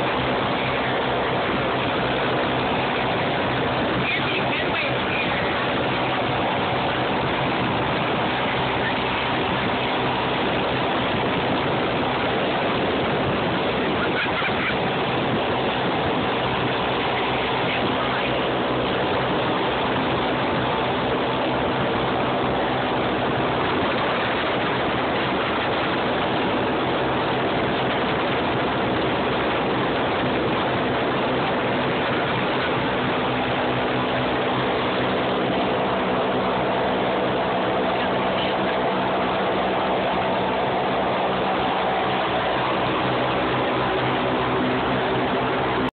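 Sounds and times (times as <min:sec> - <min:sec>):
blimp engines droning: 0:00.0 - 0:45.9.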